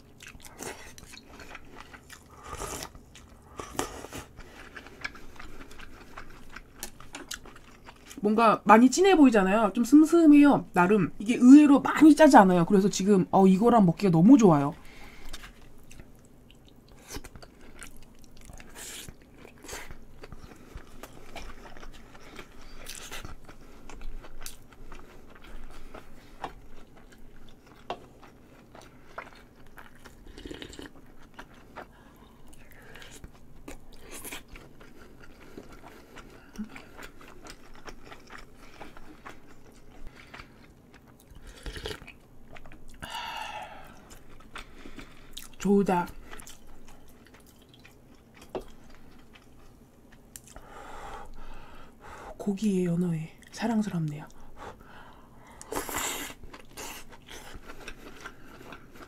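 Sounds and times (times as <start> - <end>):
close chewing with wet mouth sounds: 0.0 - 10.8, 14.3 - 52.1, 53.0 - 59.0.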